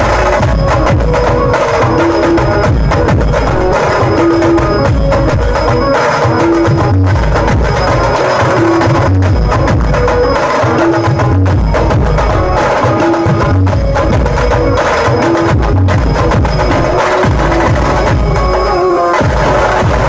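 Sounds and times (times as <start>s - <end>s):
heavy drums: 0.0s - 20.0s
loud amplified band music: 0.0s - 20.0s.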